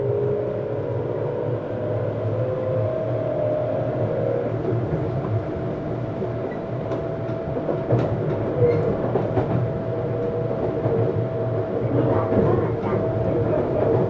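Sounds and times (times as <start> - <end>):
wheels rumbling on track: 0.0 - 14.0.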